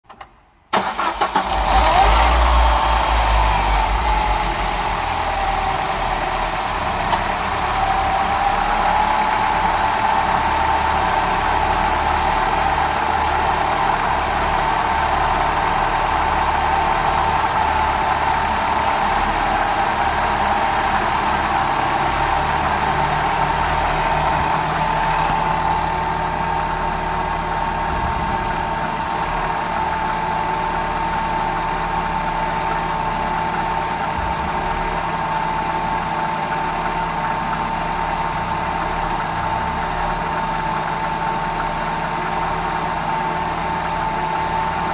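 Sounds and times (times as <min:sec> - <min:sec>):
car engine idling: 0:00.8 - 0:44.9
constant whining tone: 0:02.6 - 0:44.9.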